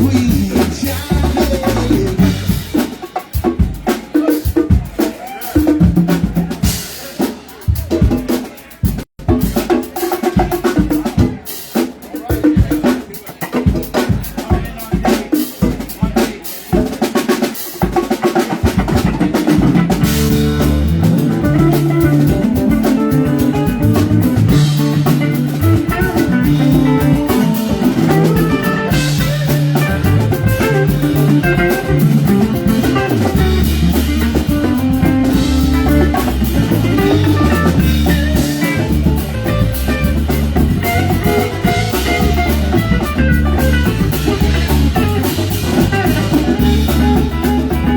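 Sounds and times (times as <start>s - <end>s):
drum kit playing: 0.0s - 47.9s
rock band playing: 0.0s - 47.9s.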